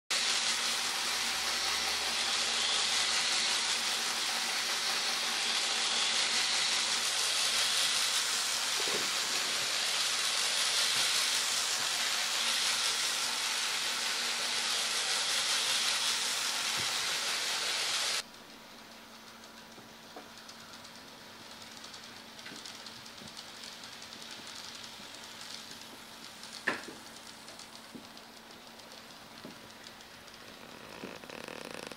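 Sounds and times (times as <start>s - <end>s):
model train running hiss: 0.1s - 18.2s, 19.0s - 31.9s.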